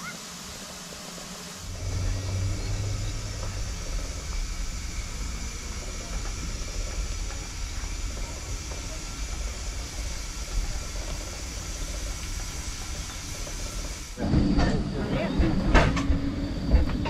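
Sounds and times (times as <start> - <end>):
faint hiss of steam: 0.0 - 15.0
steam locomotive rumbling: 0.0 - 17.0.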